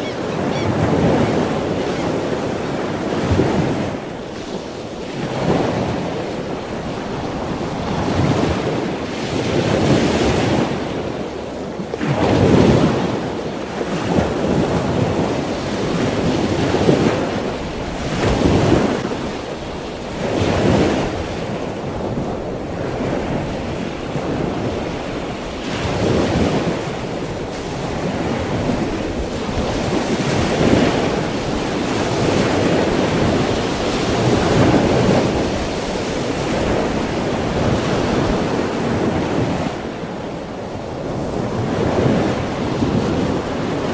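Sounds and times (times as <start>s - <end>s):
ocean waves breaking: 0.0s - 43.9s.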